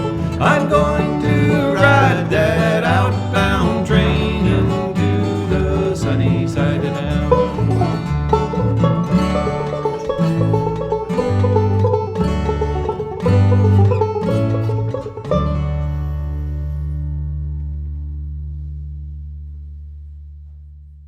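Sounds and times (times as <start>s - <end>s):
plucked strings picking notes: 0.0s - 20.3s
bass line: 0.0s - 21.0s.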